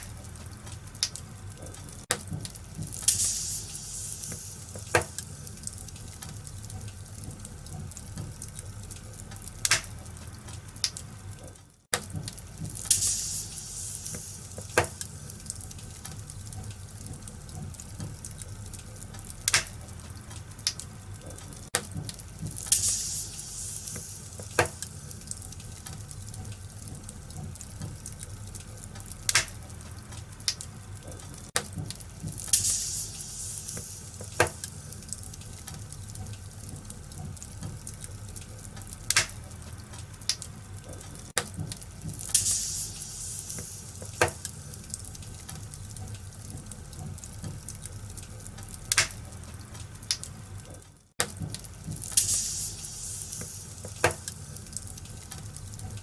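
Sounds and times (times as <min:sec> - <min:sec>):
fire hissing flare-up: 0:00.0 - 0:11.4, 0:12.2 - 0:40.6, 0:41.6 - 0:50.3, 0:51.7 - 0:56.0
low rumble of burning: 0:00.0 - 0:56.0
wood fire crackling: 0:00.0 - 0:56.0.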